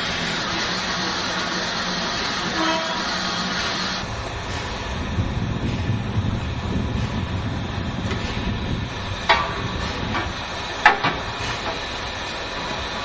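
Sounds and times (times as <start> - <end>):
low rumble of locomotives: 0.0 - 13.0.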